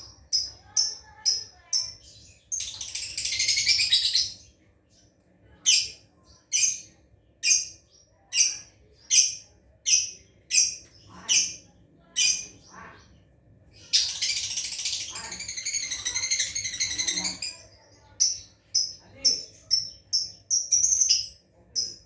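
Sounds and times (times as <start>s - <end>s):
lovebird chattering: 0.0s - 4.4s, 5.7s - 13.0s, 13.8s - 22.0s.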